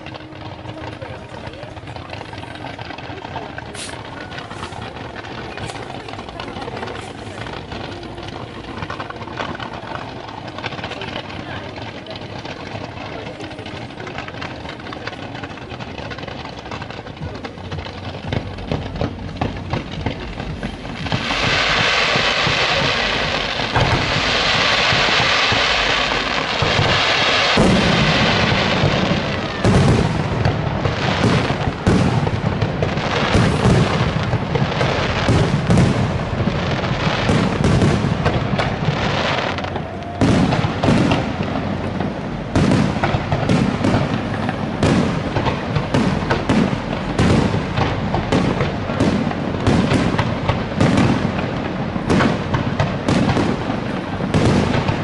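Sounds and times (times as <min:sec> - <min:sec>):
firework hiss: 0:00.0 - 0:17.2, 0:17.8 - 0:55.0
firework shells bursting: 0:00.0 - 0:55.0.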